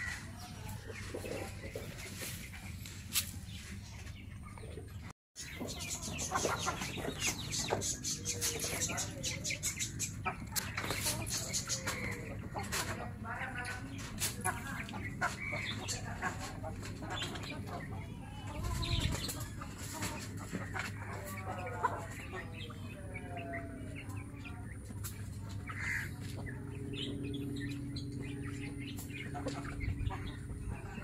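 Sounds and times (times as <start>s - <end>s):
chickens clucking: 0.0s - 31.0s
small birds chirping: 0.0s - 31.0s
steady low hum: 5.4s - 31.0s.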